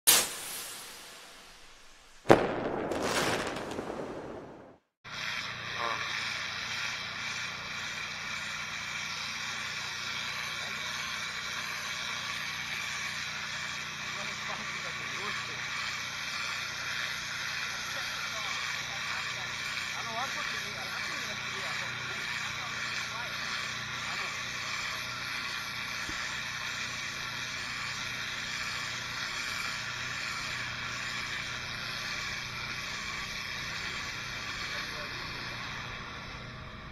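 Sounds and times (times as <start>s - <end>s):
pressure washer spray hissing: 0.1s - 2.1s, 5.1s - 36.9s.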